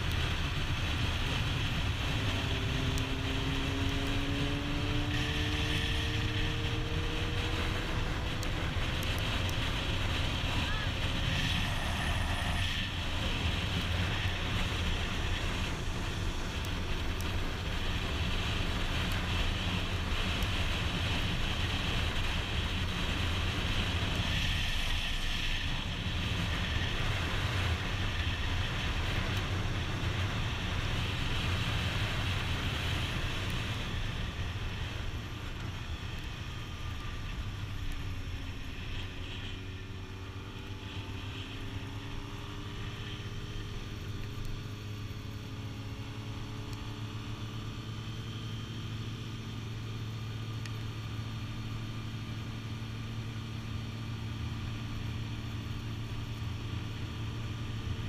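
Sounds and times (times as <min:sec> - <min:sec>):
motorcycle engine drone: 0:00.0 - 0:58.0
wind rushing over camera: 0:00.0 - 0:58.0.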